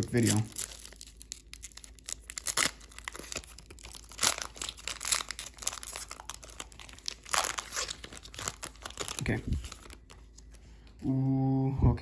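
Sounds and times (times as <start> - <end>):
foil pack ripping: 0.0 - 10.2
foil wrapper crinkling: 0.0 - 10.6.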